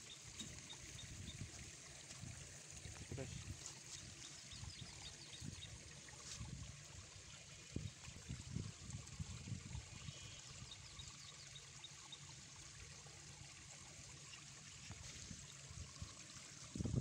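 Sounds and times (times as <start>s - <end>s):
water trickling in a ditch: 0.0s - 17.0s.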